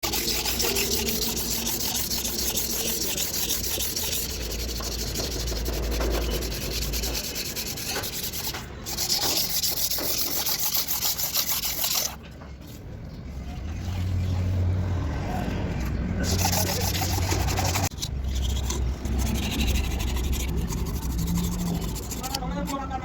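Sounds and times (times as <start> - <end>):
fast abrasive rubbing: 0.0 - 12.2, 16.2 - 23.0.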